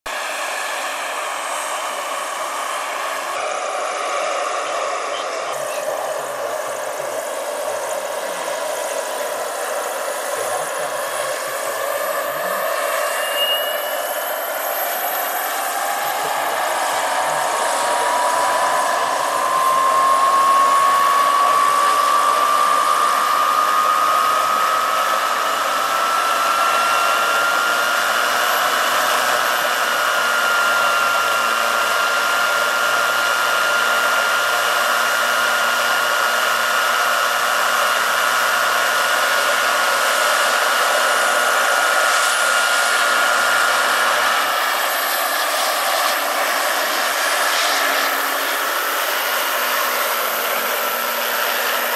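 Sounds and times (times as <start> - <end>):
electric motor whine: 0.1 - 51.9
helicopter rotor rush: 0.1 - 51.9.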